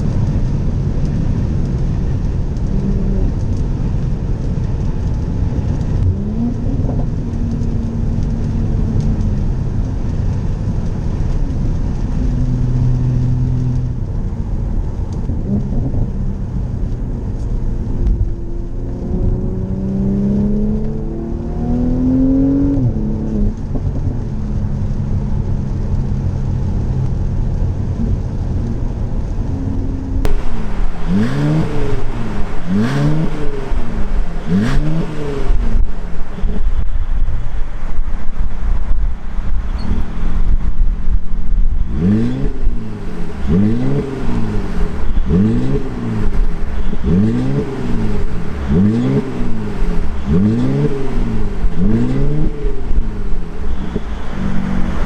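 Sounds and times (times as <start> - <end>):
car engine accelerating: 0.0 - 38.3, 39.2 - 55.0
tyre and road noise: 0.0 - 55.0.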